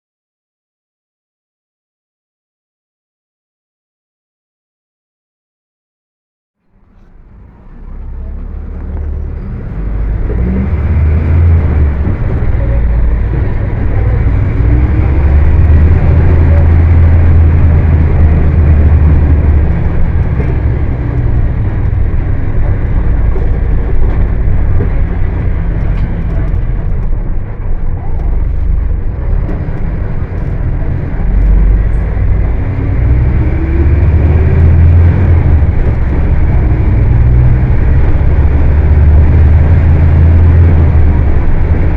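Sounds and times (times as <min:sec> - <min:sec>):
diesel engine deep rumble: 0:06.6 - 0:41.9.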